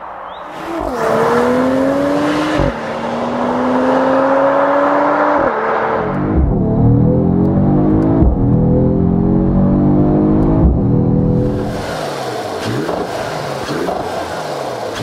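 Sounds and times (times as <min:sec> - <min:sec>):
car engine accelerating hard: 0:00.5 - 0:15.0.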